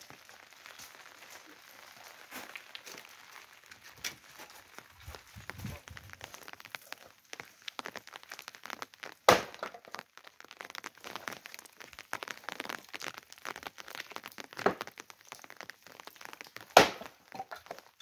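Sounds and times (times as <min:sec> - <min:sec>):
crackling and rustling: 0:00.0 - 0:18.0
sharp cracks: 0:00.0 - 0:18.0.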